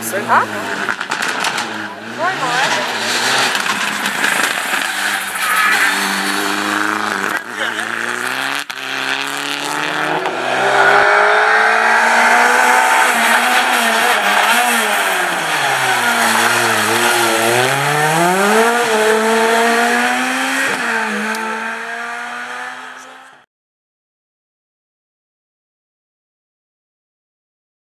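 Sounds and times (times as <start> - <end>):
rally car engine accelerating: 0.0 - 23.4.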